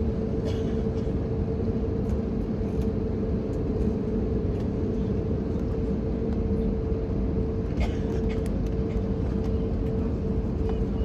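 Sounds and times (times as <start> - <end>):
jet engine hum: 0.0 - 11.0.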